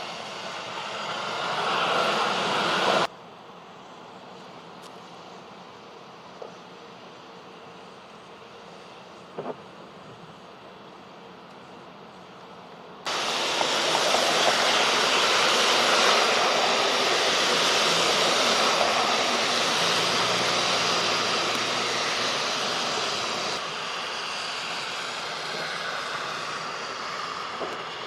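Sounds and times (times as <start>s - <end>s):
cars driving on snowy street: 0.0s - 28.0s.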